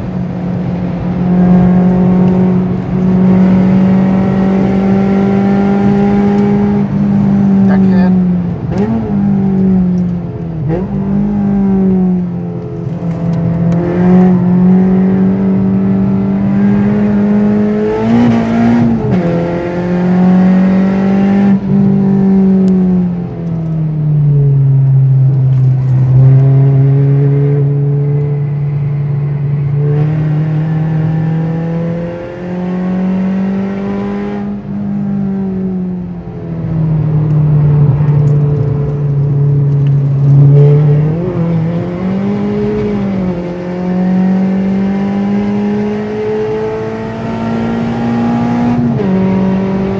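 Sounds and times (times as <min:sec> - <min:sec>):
car engine running hard: 0:00.0 - 0:49.9.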